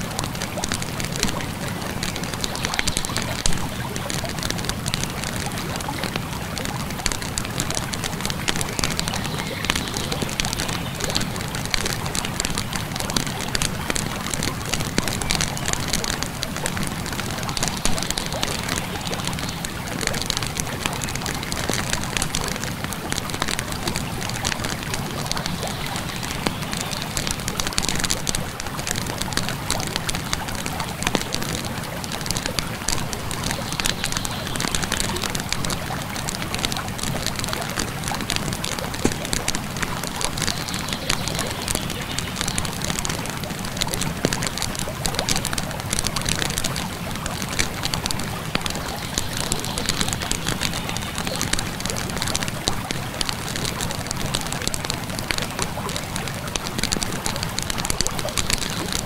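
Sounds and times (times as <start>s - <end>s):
campfire crackling: 0.0s - 59.0s
flowing river water: 0.0s - 59.0s.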